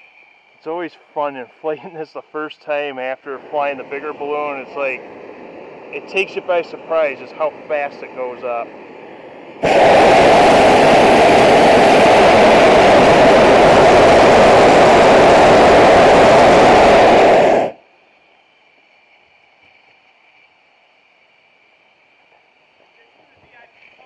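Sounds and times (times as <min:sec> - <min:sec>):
propane burner blast: 0:00.0 - 0:24.0.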